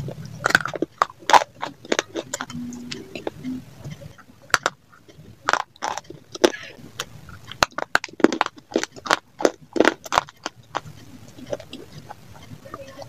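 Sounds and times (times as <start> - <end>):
dry clay crunching: 0.0 - 13.0.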